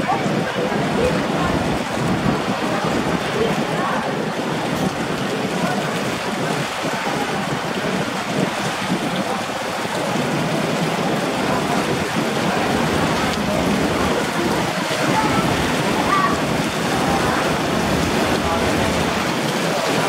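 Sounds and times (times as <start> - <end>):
harbour water rushing and splashing: 0.0 - 20.0.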